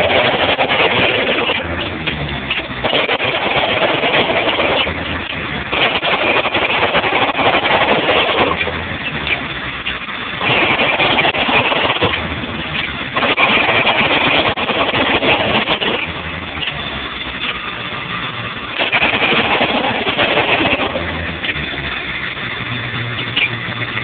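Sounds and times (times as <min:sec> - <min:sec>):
jackhammer hammering: 0:00.0 - 0:24.0
low steady running sound: 0:00.0 - 0:24.0.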